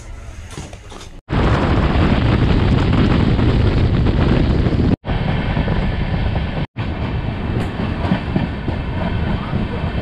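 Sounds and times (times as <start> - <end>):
train running rumble: 0.0 - 10.0
wind buffeting microphone: 1.3 - 10.0.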